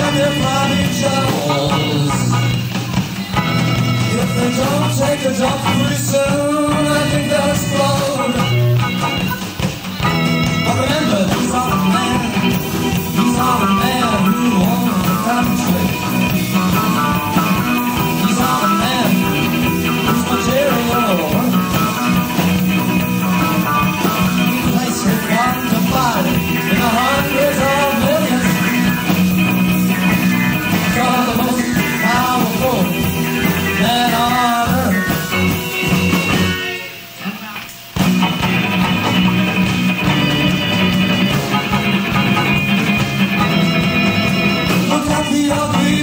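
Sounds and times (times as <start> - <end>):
rock and roll band playing: 0.0 - 46.0.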